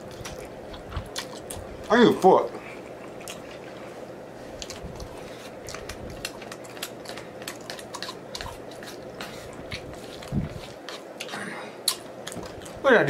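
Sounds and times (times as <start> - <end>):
chewing with wet mouth clicks: 0.0 - 1.7, 2.9 - 3.6, 4.6 - 12.8.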